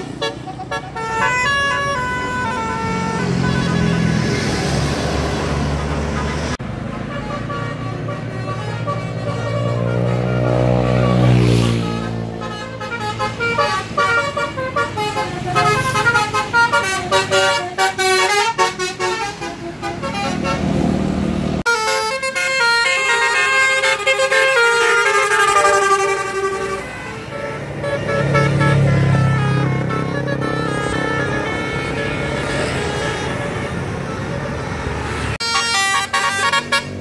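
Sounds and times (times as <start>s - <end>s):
musical air horns: 0.0s - 20.8s, 21.6s - 37.0s
bus engines rumbling: 0.0s - 37.0s.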